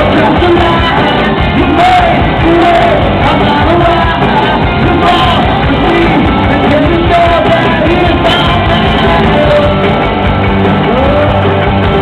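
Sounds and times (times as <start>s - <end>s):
person singing lead vocal: 0.0s - 12.0s
rock band playing live: 0.0s - 12.0s.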